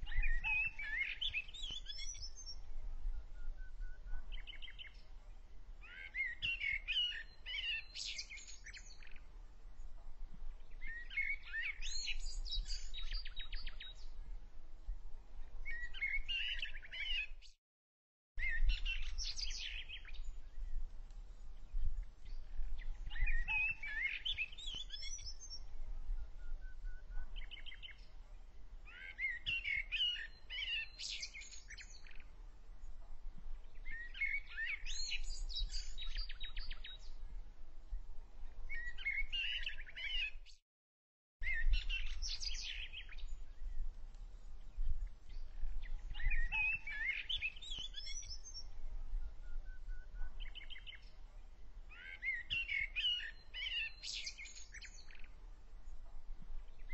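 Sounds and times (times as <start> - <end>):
small birds singing: 0.0 - 17.6, 18.4 - 40.6, 41.4 - 56.9.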